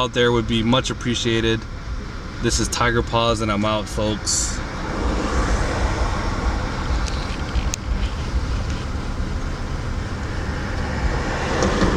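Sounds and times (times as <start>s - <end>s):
car engine idling roughly: 0.0s - 4.8s, 6.4s - 11.9s.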